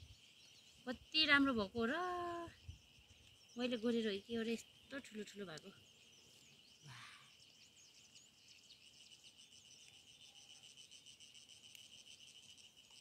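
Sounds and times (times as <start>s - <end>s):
crickets trilling: 0.0s - 13.0s
rustle: 0.0s - 13.0s.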